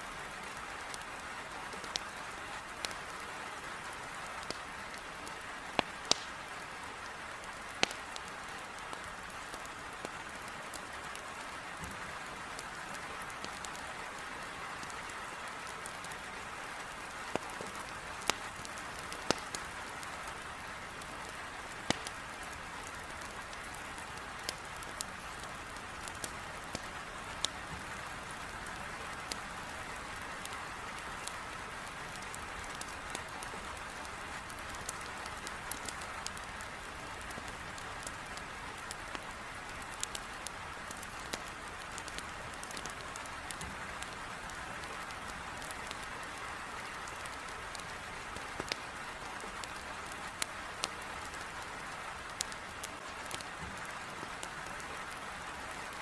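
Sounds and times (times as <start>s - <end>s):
heavy rain on a window: 0.0s - 56.0s
wood fire crackling: 0.2s - 56.0s.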